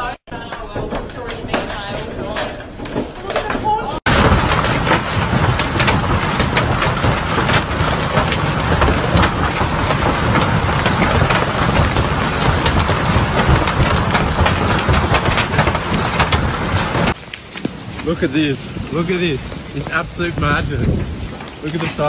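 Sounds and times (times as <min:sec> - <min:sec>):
hail drumming on hard surface: 0:04.0 - 0:22.0.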